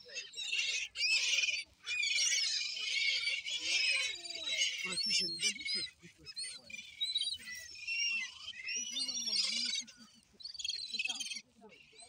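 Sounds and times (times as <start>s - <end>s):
seagulls and ducks calling: 0.0s - 12.0s.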